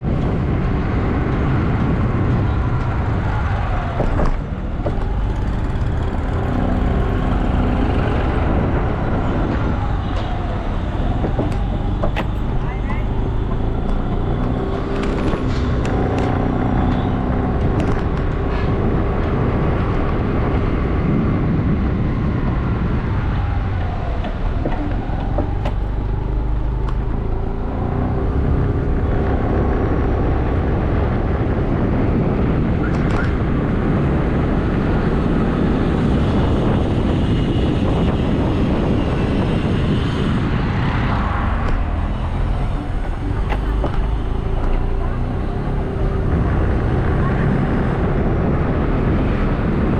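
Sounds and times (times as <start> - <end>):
engine and tyres rumbling: 0.0 - 49.9
vehicles passing: 0.0 - 49.9.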